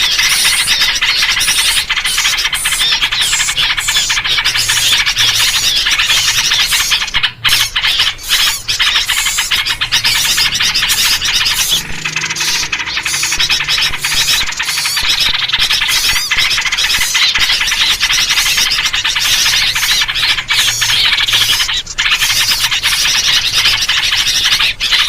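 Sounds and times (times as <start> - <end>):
small birds chattering: 0.0 - 25.0.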